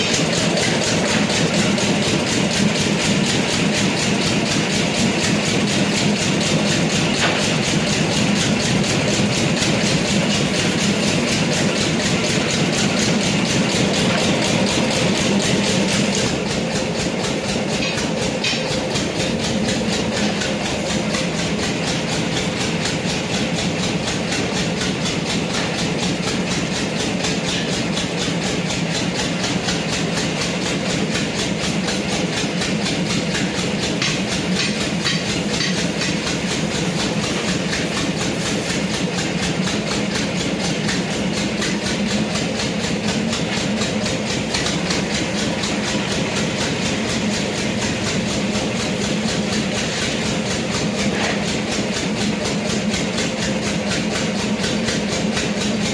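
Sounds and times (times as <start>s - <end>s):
machine clattering: 0.0s - 55.9s.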